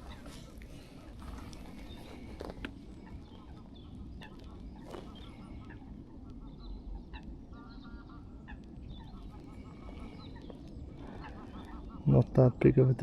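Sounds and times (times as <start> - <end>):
low wind rumble: 0.0 - 13.0
water birds nasal calls: 0.0 - 13.0.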